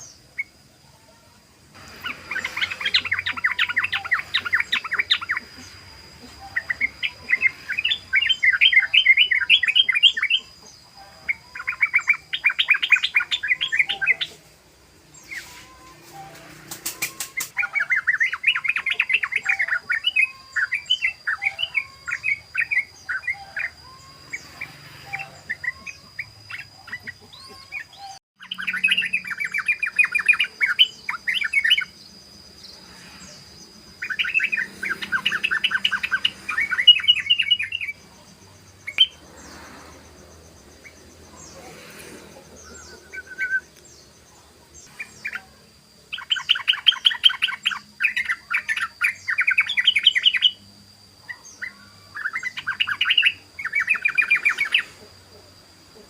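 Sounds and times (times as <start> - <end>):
bird chattering song: 1.8 - 56.0.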